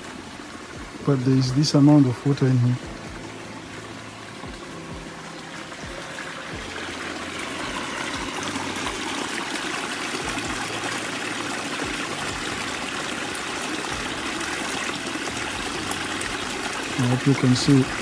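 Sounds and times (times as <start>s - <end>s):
stream water rushing over rocks: 0.0s - 18.0s.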